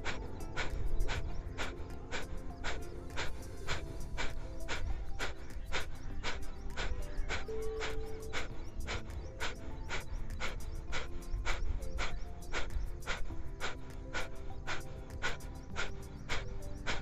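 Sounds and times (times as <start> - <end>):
forceful nasal exhalations: 0.0 - 17.0
quiet background music: 0.0 - 17.0.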